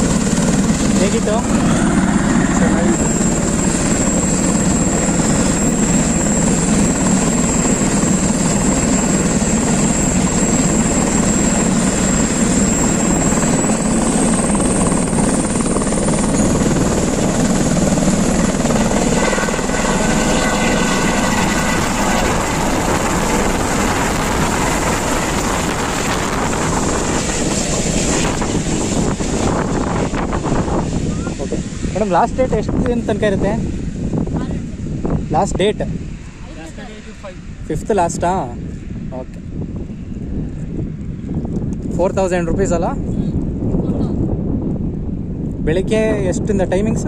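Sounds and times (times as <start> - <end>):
helicopter rotor and engine: 0.0 - 47.0
high turbine whine: 0.0 - 47.0.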